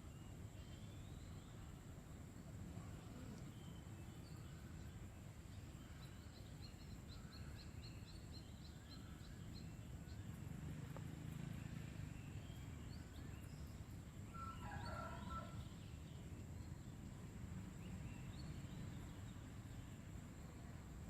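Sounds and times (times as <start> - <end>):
bird chirping: 0.0 - 1.8, 2.4 - 17.1, 17.8 - 20.6
faint outdoor rumble: 0.0 - 21.0.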